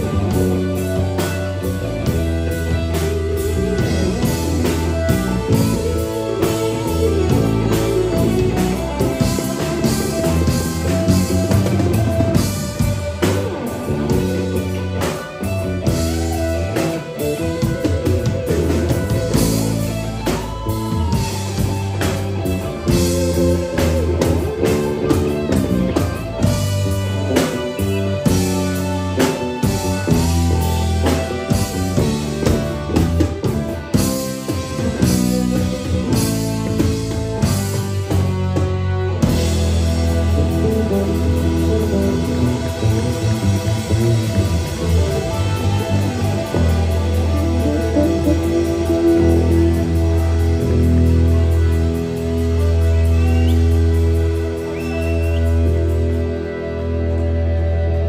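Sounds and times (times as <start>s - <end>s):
saxophone: 0.0s - 56.8s
drum kit: 0.0s - 58.0s
electric bass: 0.0s - 58.0s
electric guitar: 0.0s - 58.0s.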